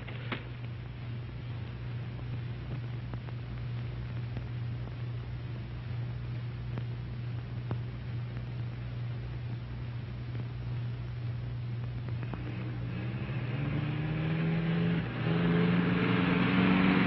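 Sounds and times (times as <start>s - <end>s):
film soundtrack hum and hiss: 0.0s - 17.0s.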